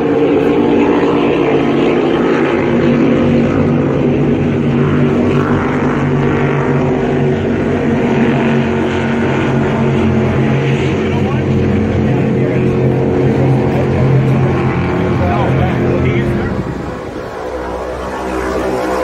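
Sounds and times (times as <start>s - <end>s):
racing boat engines droning: 0.0s - 19.0s.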